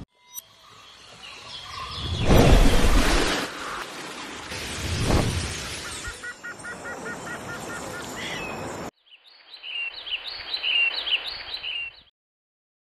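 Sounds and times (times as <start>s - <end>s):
birds chirping: 0.4s - 3.8s, 4.6s - 12.1s.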